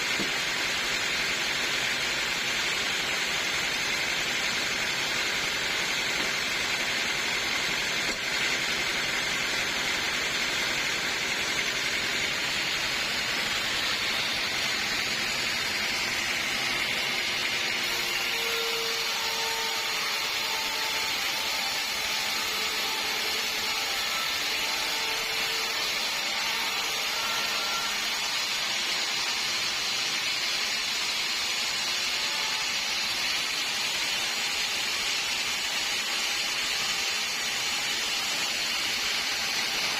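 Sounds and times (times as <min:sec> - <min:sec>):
saw blade whining through log: 0:00.0 - 0:39.9.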